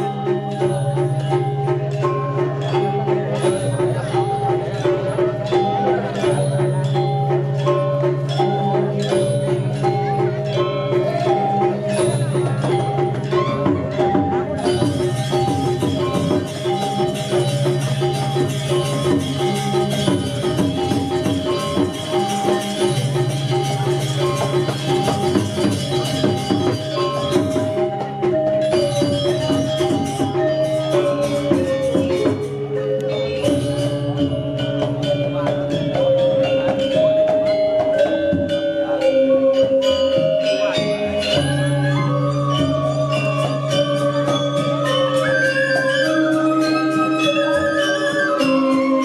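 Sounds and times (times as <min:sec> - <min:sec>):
gamelan metallophones and gongs: 0:00.0 - 0:49.0.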